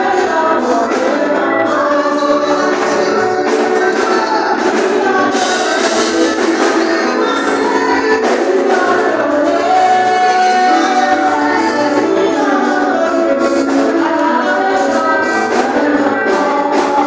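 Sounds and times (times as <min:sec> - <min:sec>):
congregation singing gospel song: 0:00.0 - 0:17.0
instrumental accompaniment: 0:00.0 - 0:17.0.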